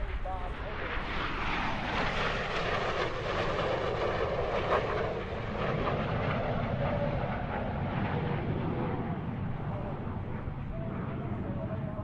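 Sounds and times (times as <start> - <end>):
jet fighters flying past: 0.0 - 12.0.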